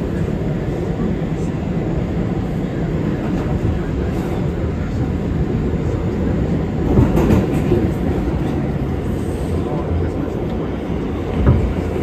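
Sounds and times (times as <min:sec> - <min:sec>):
subway train rumbling on track: 0:00.0 - 0:12.0.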